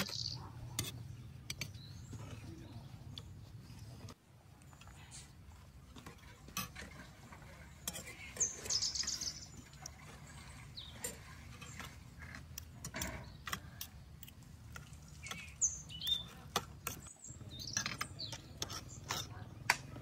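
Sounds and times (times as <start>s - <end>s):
small birds chirping: 0.0s - 6.0s, 7.3s - 20.0s.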